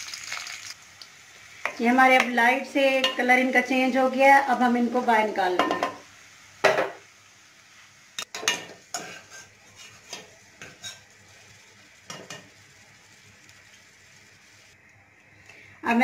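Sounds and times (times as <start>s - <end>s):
faint sizzle: 0.0s - 16.0s.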